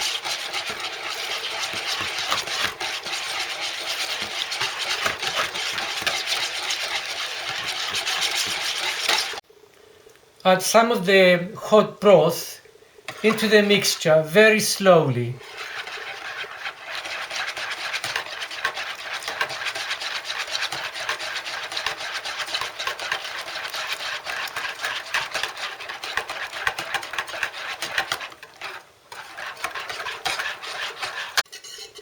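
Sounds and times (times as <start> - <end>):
whisk beating in a bowl: 0.0 - 9.4, 13.1 - 14.0, 15.4 - 31.9.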